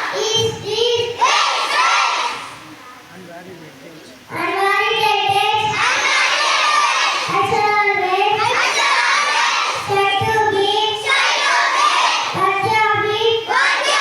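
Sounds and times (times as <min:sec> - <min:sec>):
children singing in unison: 0:00.0 - 0:02.6, 0:04.4 - 0:14.0.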